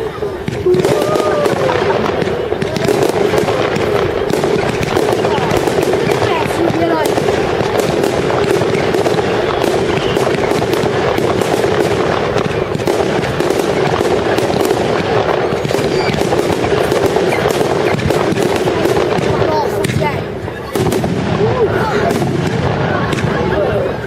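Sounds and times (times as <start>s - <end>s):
fireworks cracking and banging: 0.0s - 24.0s.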